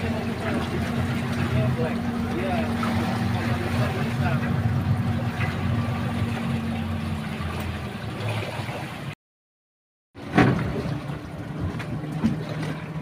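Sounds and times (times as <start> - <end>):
motorboat engine running: 0.0 - 9.1, 10.2 - 13.0.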